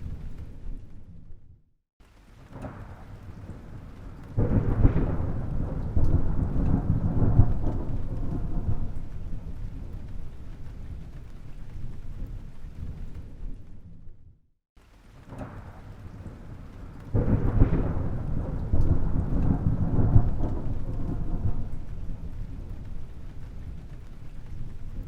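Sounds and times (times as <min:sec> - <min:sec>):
thunder clap and rumble: 0:00.0 - 0:01.6, 0:02.4 - 0:14.4, 0:15.1 - 0:25.0.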